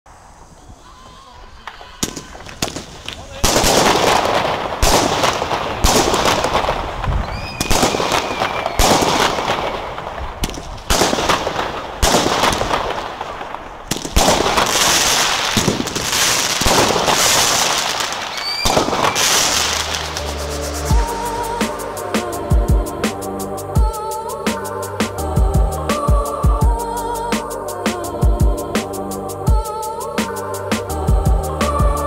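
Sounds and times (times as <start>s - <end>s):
firework crackling: 0.1s - 32.0s.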